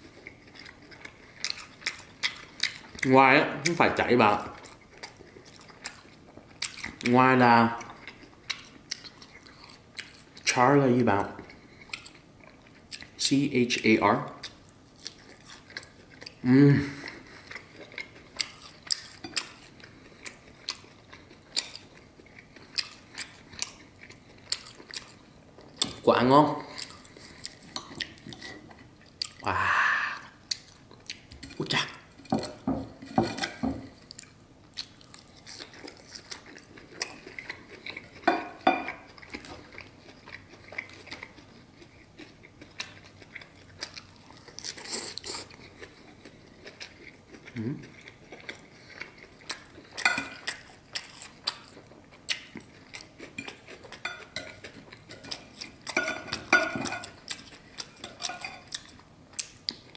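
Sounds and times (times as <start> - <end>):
person chewing food: 0.0 - 10.5, 11.1 - 13.2, 14.3 - 59.9.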